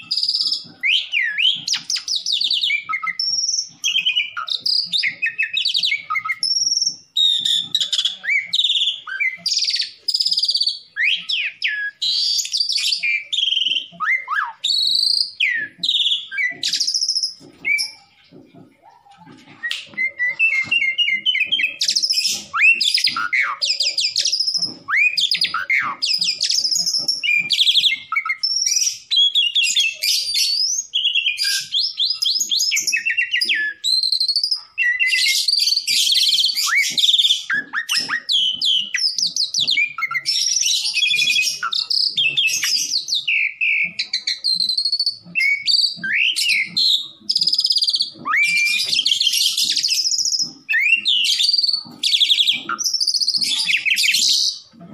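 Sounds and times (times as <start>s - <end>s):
starling song with whistles and trills: 0.0s - 54.9s.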